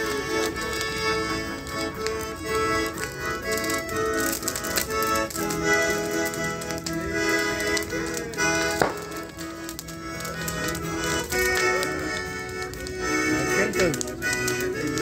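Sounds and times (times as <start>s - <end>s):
accordion music: 0.0s - 15.0s
bonfire cracks: 0.0s - 15.0s.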